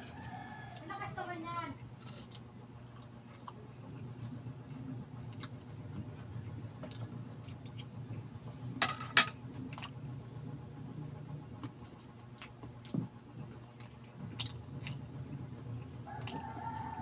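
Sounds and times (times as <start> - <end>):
faint low hum: 0.0 - 17.0
wet chewing sounds: 1.8 - 8.8, 9.5 - 17.0.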